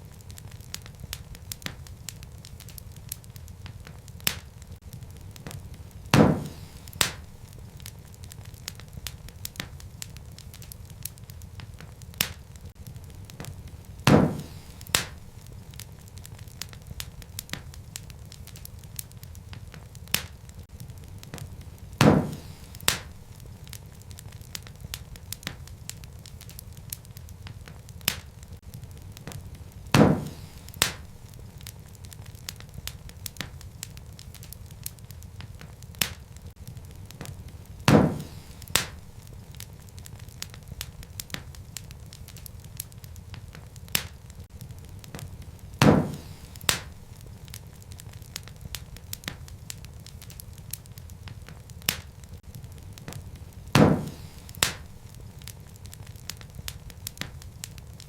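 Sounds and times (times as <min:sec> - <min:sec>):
burning wood popping: 0:00.0 - 0:58.0
low rumble of flames: 0:00.0 - 0:58.0
wood fire crackling: 0:00.0 - 0:58.0.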